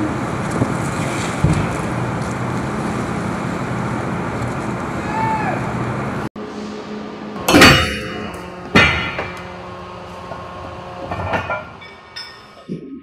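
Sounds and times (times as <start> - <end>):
machinery hum: 0.0 - 12.9.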